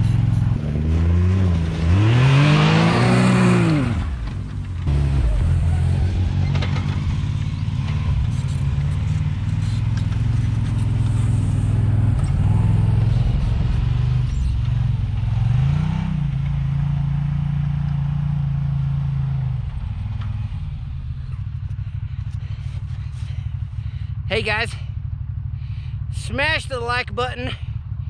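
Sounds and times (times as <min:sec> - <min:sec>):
vehicle engine running under load: 0:00.0 - 0:28.0.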